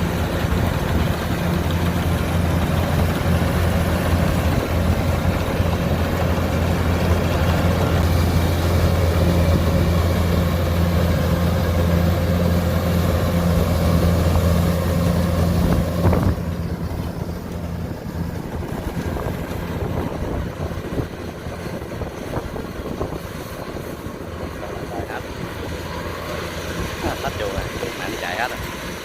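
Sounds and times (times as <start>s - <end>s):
diesel engine humming: 0.0s - 29.0s
quieter machine noise: 0.0s - 29.0s.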